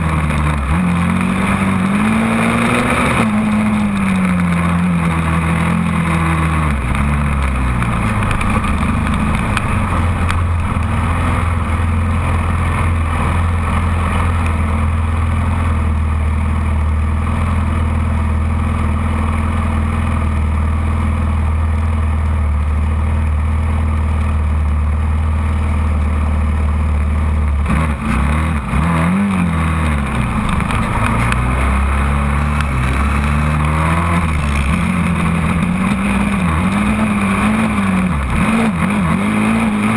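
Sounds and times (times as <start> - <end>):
quad engine running hard: 0.0 - 39.9.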